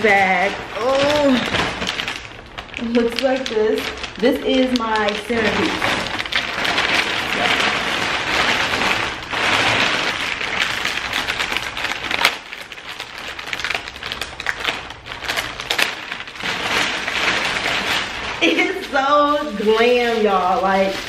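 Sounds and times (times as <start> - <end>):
plastic bag rustling: 0.0 - 21.0.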